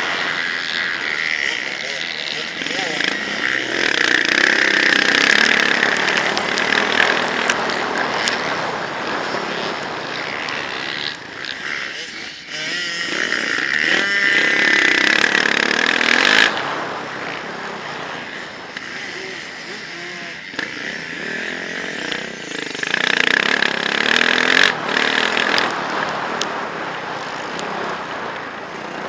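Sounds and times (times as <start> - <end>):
motorbike engine revving: 0.0 - 27.9.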